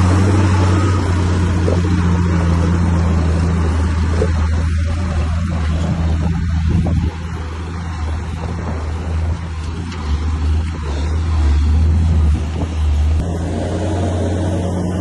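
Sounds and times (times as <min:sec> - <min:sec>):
diesel engine deep drone: 0:00.0 - 0:15.0.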